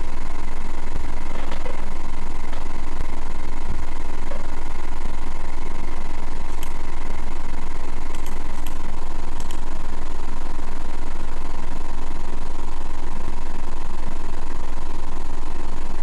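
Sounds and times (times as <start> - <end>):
deep low-pitched drone: 0.0 - 16.0
faint higher hum: 0.0 - 16.0.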